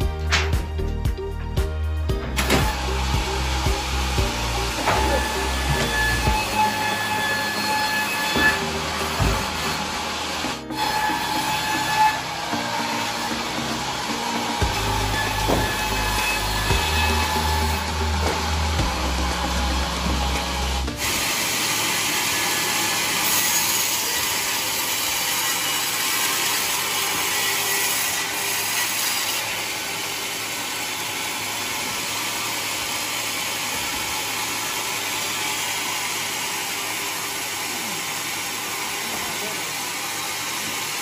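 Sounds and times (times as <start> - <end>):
saw cutting through log: 2.1 - 41.0.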